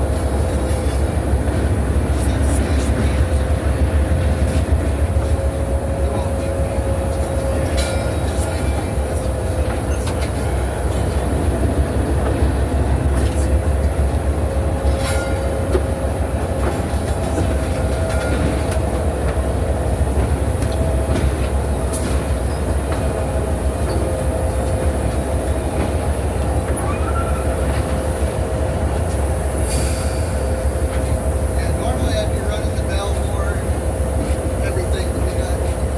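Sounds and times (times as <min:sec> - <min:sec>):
train rumble from aboard: 0:00.0 - 0:35.9
wheels clicking on rails: 0:00.0 - 0:35.9.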